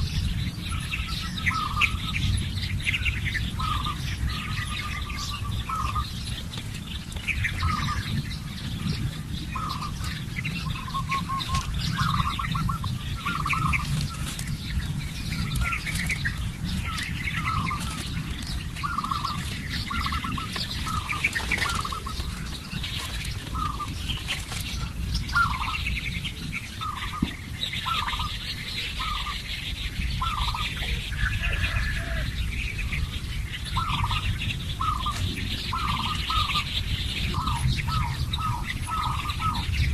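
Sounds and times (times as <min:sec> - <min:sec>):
birds chirping high: 0:00.0 - 0:39.9
steady low rumble: 0:00.0 - 0:39.9.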